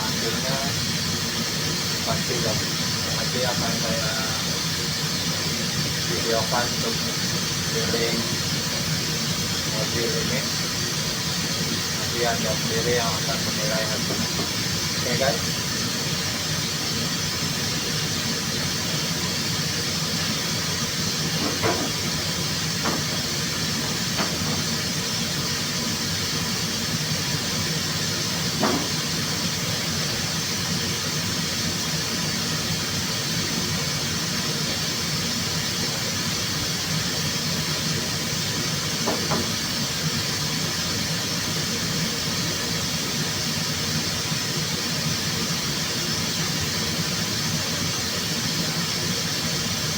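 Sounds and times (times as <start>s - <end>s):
rushing air hiss: 0.0s - 49.9s.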